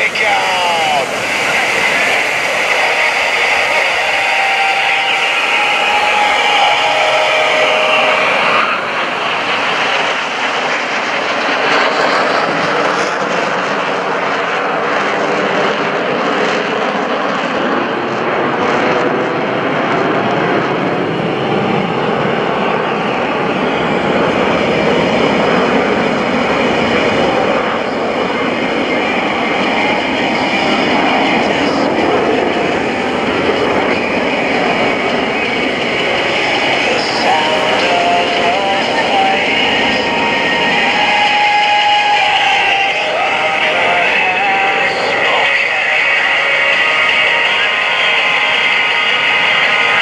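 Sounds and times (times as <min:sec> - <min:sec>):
high engine whine: 0:00.0 - 0:50.0
jet engines roaring: 0:00.0 - 0:50.0.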